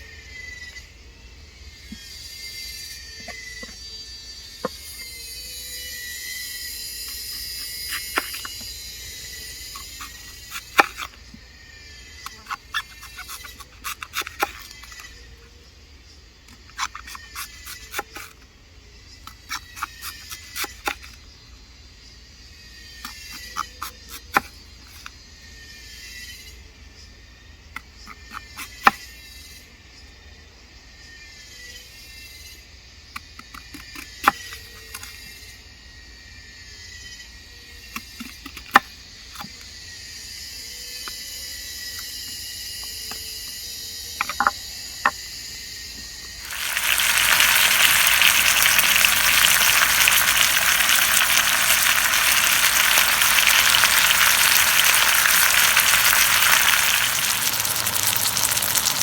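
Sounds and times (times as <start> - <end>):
insects: 0.0 - 59.0.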